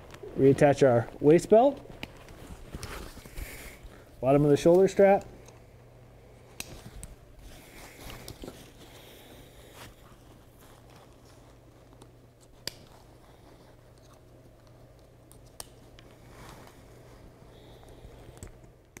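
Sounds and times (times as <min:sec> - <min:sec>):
nylon straps being handled: 0:00.0 - 0:05.2, 0:06.4 - 0:18.7.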